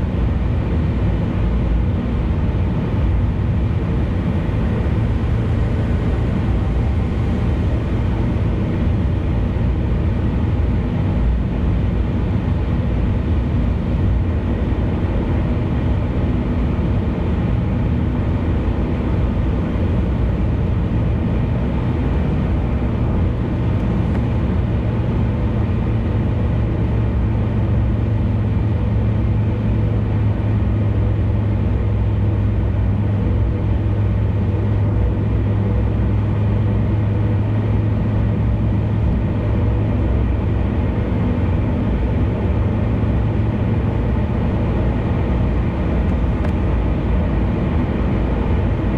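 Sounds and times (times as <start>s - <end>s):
car road and engine noise: 0.0s - 48.9s
constant low hum: 0.0s - 48.9s.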